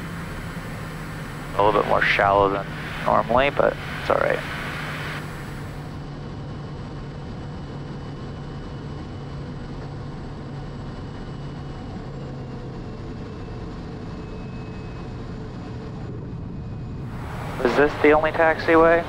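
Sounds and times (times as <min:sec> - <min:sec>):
faint high turbine whine: 0:00.0 - 0:19.0
turboprop engine and propeller hum: 0:00.0 - 0:19.0.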